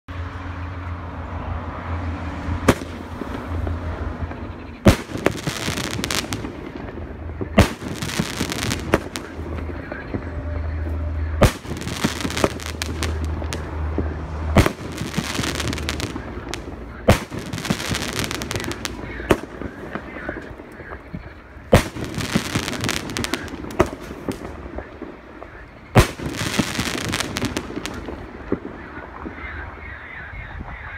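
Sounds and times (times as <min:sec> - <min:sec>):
firework aerial bangs: 0:02.6 - 0:10.4, 0:11.2 - 0:29.4.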